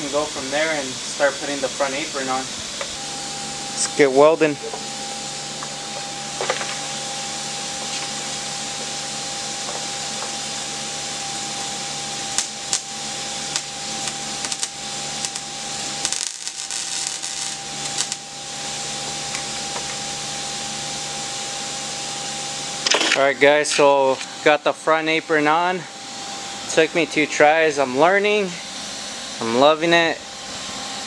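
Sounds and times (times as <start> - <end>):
welding arc crackling: 0.0 - 31.0.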